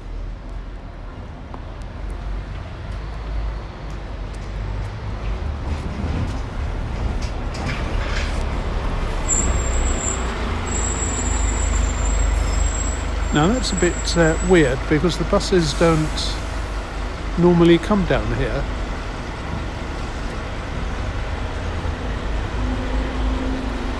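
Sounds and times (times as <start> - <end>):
bus engine rumble: 0.0 - 23.9.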